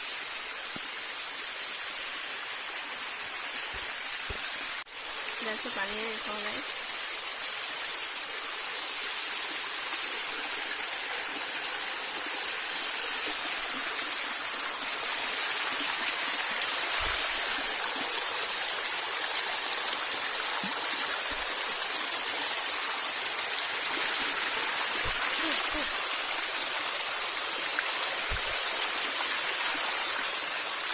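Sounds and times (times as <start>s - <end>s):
water rushing at a small waterfall: 0.0s - 30.9s.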